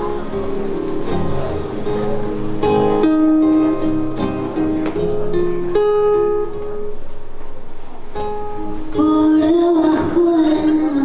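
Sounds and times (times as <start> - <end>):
acoustic guitars playing: 0.0 - 11.0.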